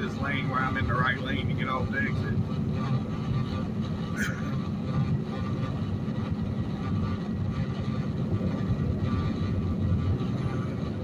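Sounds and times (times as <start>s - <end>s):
diesel engine: 0.0s - 11.0s
road noise inside truck cab: 0.0s - 11.0s.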